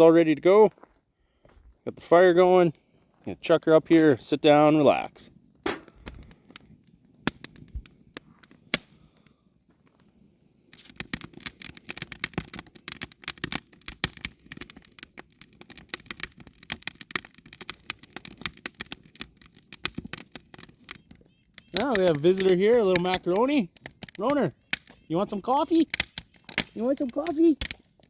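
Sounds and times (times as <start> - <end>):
campfire crackling and popping: 3.9 - 28.0.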